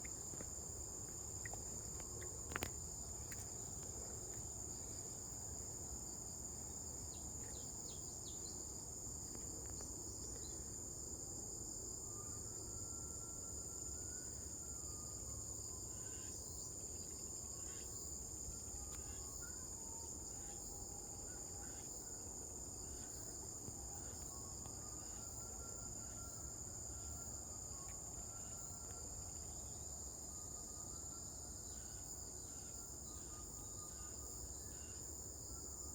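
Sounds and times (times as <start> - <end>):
high-pitched insect chorus: 0.0 - 35.9.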